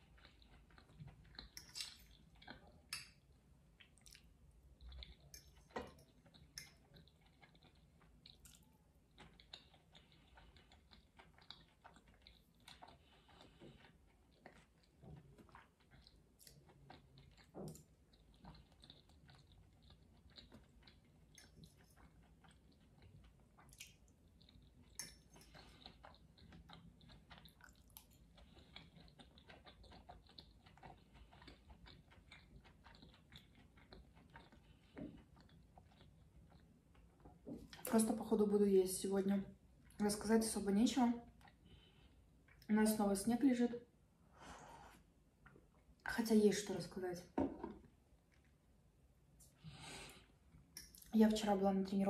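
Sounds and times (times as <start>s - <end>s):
chewing food: 0.0s - 38.6s, 39.2s - 43.9s, 49.4s - 51.5s.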